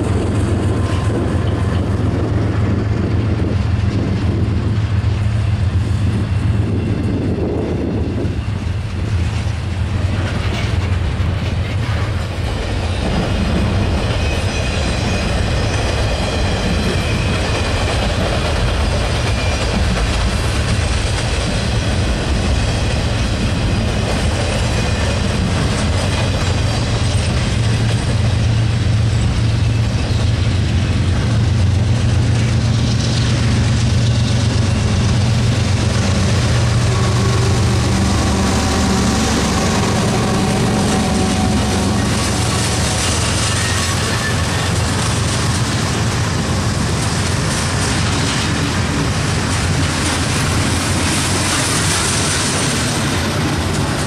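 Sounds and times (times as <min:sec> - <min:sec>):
diesel locomotive engine drone: 0:00.0 - 0:54.0
freight train rumble and wheel clatter: 0:00.0 - 0:54.0.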